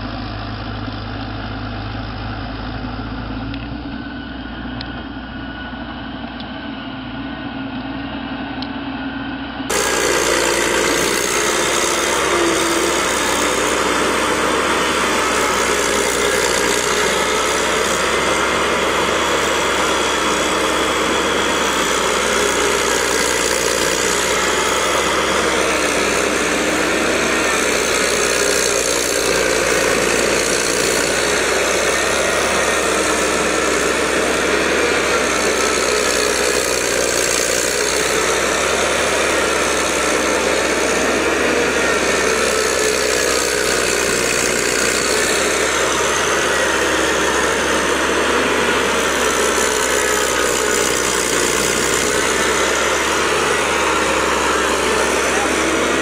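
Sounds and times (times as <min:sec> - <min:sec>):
engine running under load: 0:00.0 - 0:56.0.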